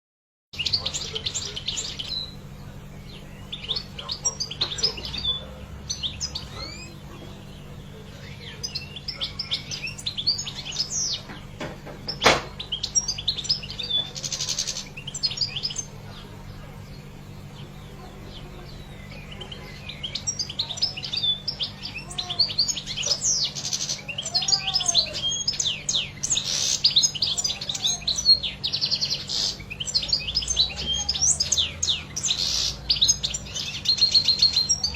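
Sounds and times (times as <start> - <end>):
faint low hum: 0.6 - 34.9
goldfinch twittering song: 0.6 - 34.9.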